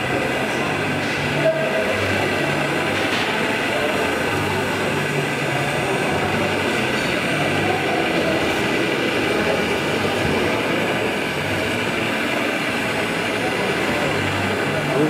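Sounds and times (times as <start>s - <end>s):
model construction machines rumbling: 0.0s - 15.0s.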